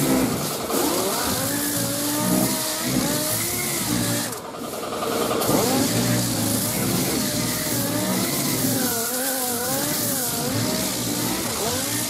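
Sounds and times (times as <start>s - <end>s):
power sander grinding filler: 0.0s - 12.0s.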